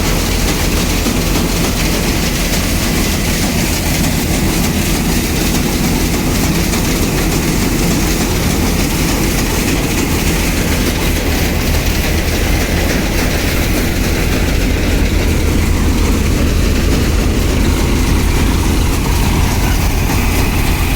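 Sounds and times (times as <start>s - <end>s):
low engine hum: 0.0s - 20.9s.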